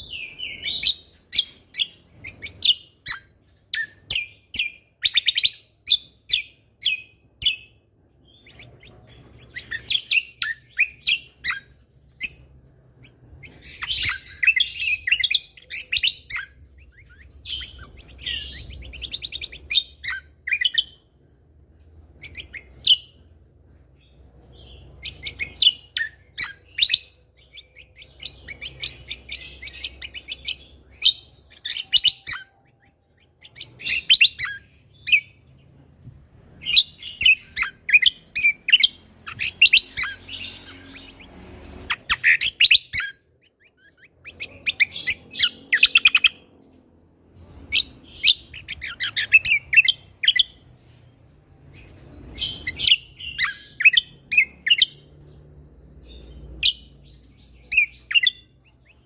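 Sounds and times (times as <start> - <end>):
songbird rapid sharp chirping: 0.0 - 59.0.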